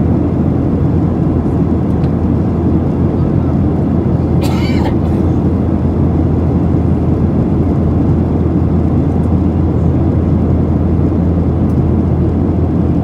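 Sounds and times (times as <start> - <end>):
deep cabin drone: 0.0 - 13.0
jet engines: 0.0 - 13.0.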